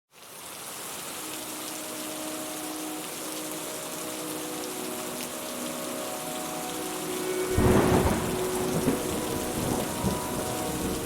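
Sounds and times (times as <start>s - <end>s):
steady rain falling: 0.1s - 11.0s.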